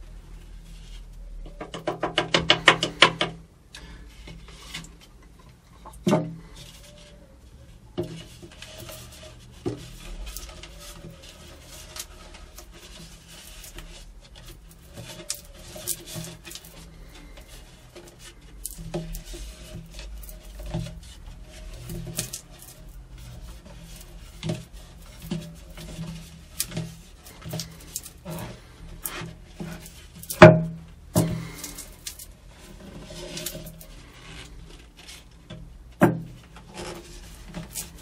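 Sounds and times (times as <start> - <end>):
plastic tube rubbing and scraping: 0.0 - 38.0.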